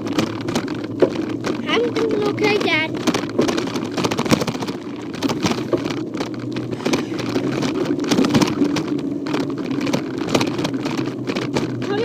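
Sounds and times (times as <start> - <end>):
bike clattering and rattling: 0.0 - 12.0
bike rolling rumble: 0.0 - 12.0.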